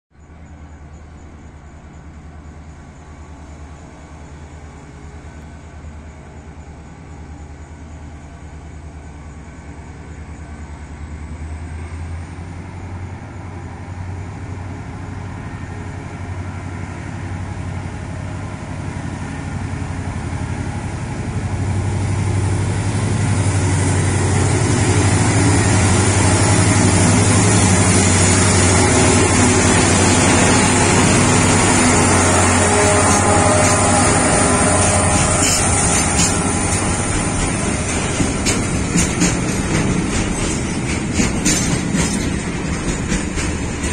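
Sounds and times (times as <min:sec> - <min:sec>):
diesel locomotive engine drone: 0:00.1 - 0:43.9
rumble of train wagons: 0:00.1 - 0:43.9.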